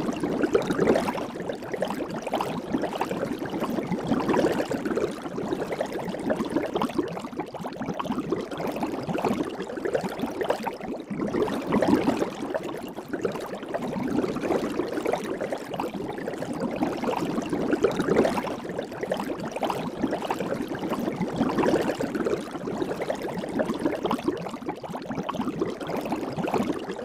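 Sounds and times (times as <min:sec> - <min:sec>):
soap bubbles crackling and popping: 0:00.0 - 0:27.0.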